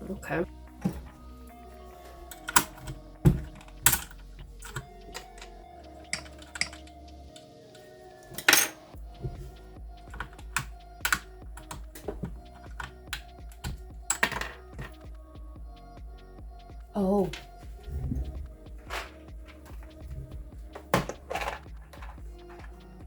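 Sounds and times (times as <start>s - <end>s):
faint background music: 0.0s - 23.0s.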